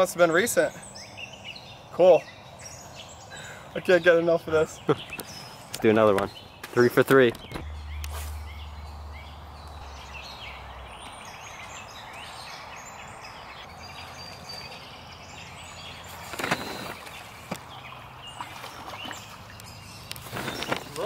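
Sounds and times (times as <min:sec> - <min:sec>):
songbirds chirping and singing: 0:00.0 - 0:21.0.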